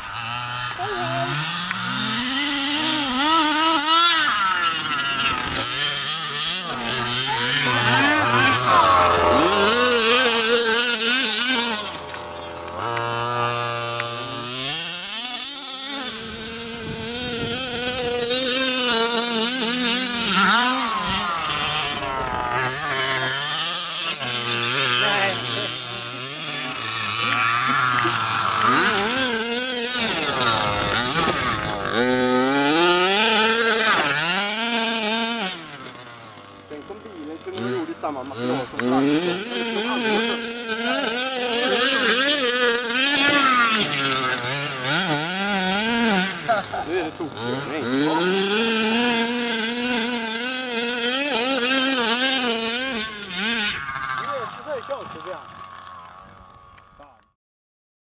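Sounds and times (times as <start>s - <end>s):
two-stroke engines revving: 0.0s - 57.4s.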